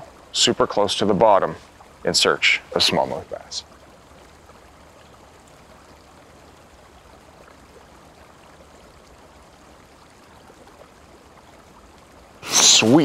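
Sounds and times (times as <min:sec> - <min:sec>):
flowing river current: 0:00.0 - 0:13.0.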